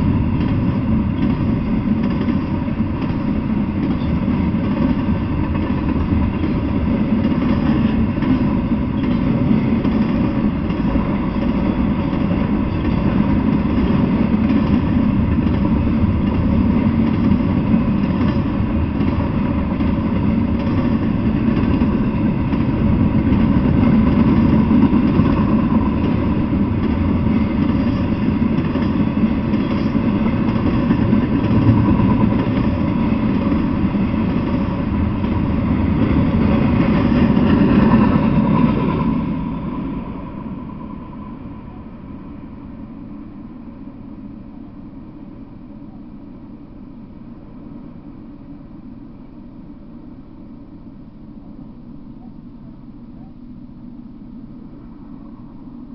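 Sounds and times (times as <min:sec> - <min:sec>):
freight train wheels rolling on rails: 0:00.0 - 0:55.9.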